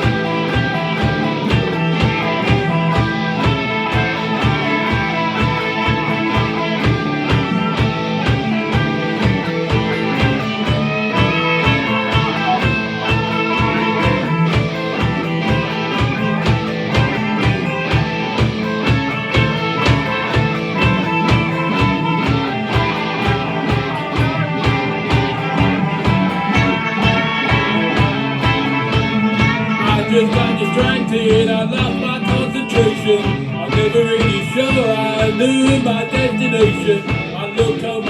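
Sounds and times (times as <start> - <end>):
electric guitars playing: 0.0 - 38.0
steady drum beat: 0.0 - 38.0.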